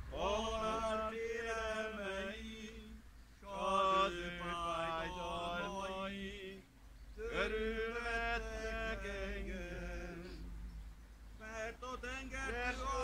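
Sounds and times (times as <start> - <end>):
man chanting a hymn: 0.0 - 10.5, 11.4 - 13.0.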